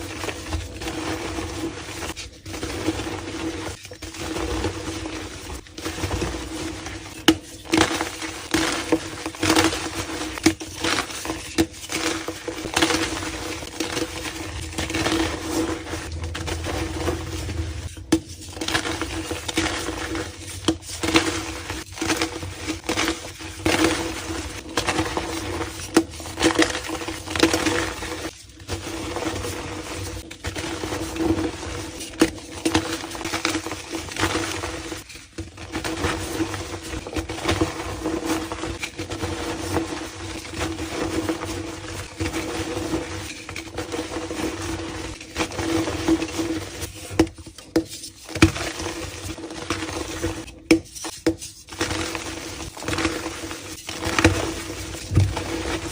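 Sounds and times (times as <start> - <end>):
chalk crumbling by hand: 0.0 - 55.9.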